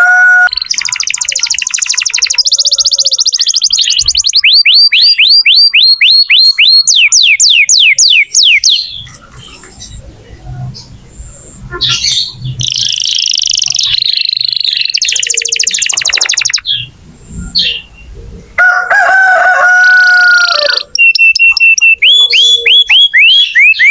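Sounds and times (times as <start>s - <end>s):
canary singing: 0.0s - 23.9s.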